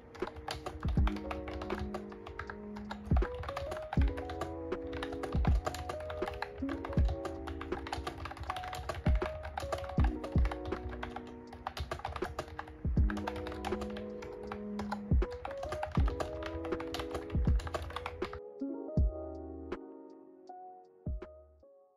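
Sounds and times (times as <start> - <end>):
fast keyboard typing clicks: 0.0 - 18.4
lofi background music: 0.0 - 21.9.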